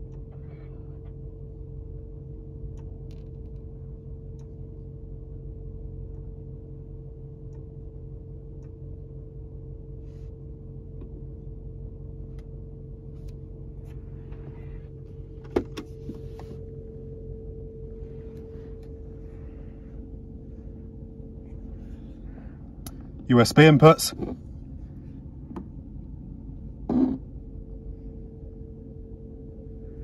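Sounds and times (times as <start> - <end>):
low hum in car cabin: 0.0 - 30.0.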